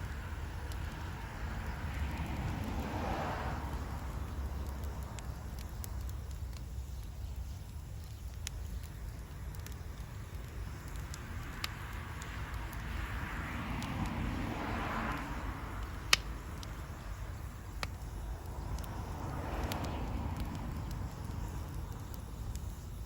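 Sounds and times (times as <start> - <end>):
campfire crackling and popping: 0.0 - 23.0
steady low rumble: 0.0 - 23.0.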